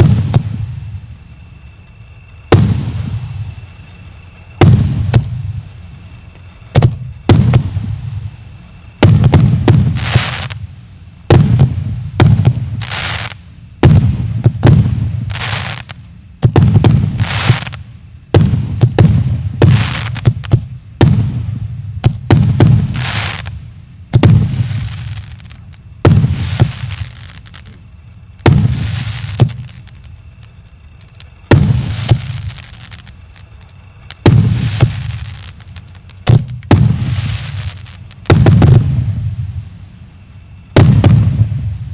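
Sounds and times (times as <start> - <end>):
fireworks bangs with booming tail: 0.0 - 1.2, 2.4 - 39.8, 40.6 - 41.9.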